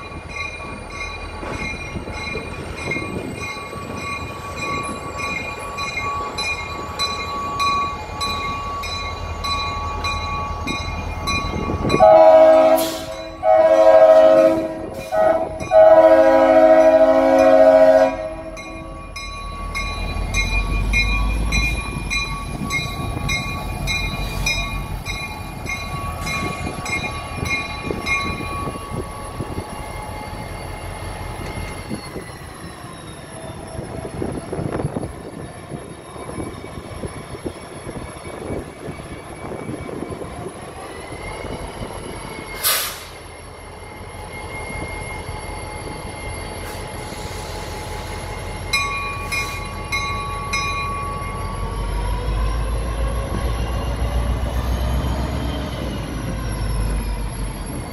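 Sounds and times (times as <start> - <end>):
locomotive bell ringing: 0.0 - 47.1, 47.8 - 57.9
diesel locomotive rumbling: 0.0 - 57.9.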